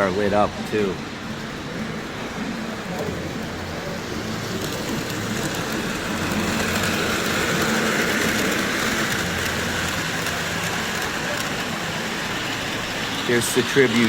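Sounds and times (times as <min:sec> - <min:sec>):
model trains rumbling and whirring: 0:00.0 - 0:14.0.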